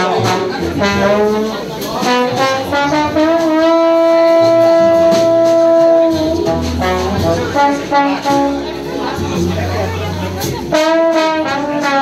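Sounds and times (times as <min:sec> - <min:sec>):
jazz trombone: 0:00.0 - 0:12.0
upright bass walking: 0:00.0 - 0:12.0.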